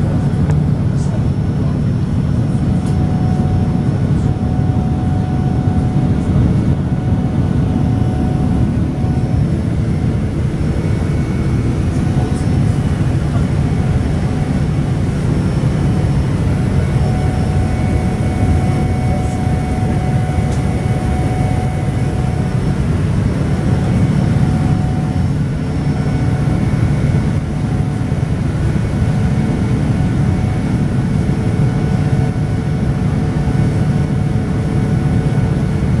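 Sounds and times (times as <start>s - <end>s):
faint steady whine: 0.0s - 36.0s
low rumble of jet engines: 0.0s - 36.0s.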